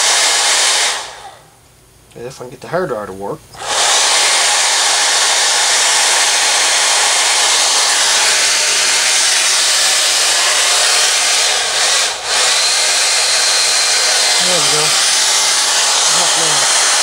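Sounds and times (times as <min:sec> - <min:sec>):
hairdryer blowing: 0:00.0 - 0:01.5, 0:03.6 - 0:17.0.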